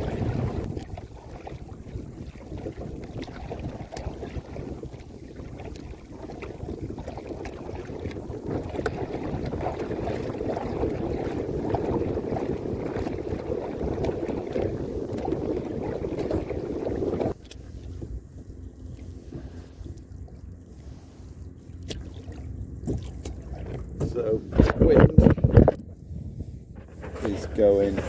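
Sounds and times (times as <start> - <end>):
wind buffeting microphone: 0.0 - 20.3, 22.2 - 28.0.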